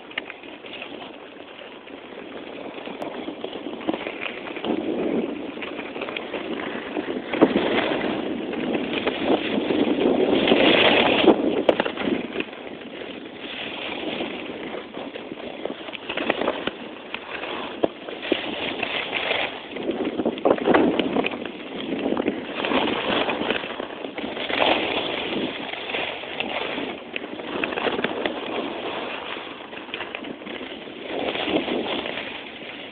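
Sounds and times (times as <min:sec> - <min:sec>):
skis scraping over snow: 0:00.0 - 0:32.9
wind rushing over microphone: 0:00.0 - 0:32.9.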